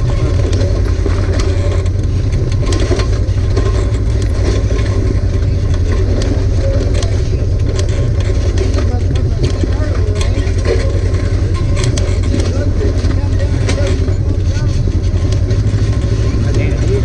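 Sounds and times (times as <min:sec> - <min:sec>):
knocks and rattles over bumps: 0:00.0 - 0:17.0
off-road vehicle engine running: 0:00.0 - 0:17.0.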